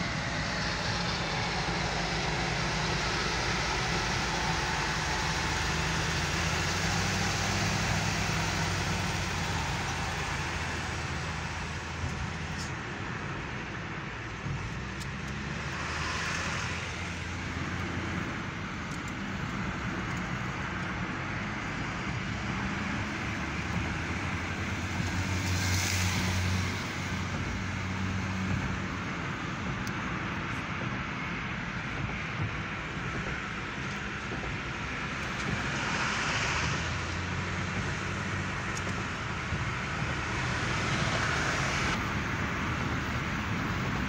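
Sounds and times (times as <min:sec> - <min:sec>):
car engine hum: 0:00.0 - 0:44.0.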